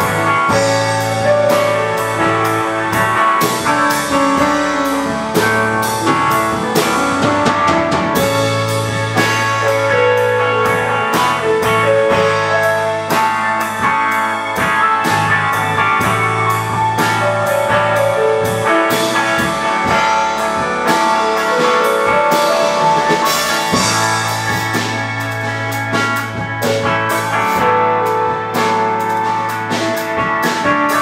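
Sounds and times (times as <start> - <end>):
bass guitar: 0.0 - 31.0
drum kit beat: 0.0 - 31.0
electric guitar: 0.0 - 31.0
keyboard: 0.0 - 31.0.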